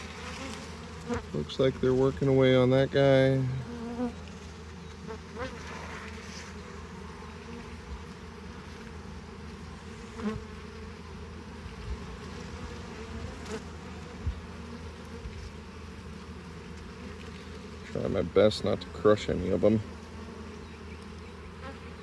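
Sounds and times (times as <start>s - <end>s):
bee buzzing close by: 0.0s - 22.0s
bee colony buzzing: 0.0s - 22.0s.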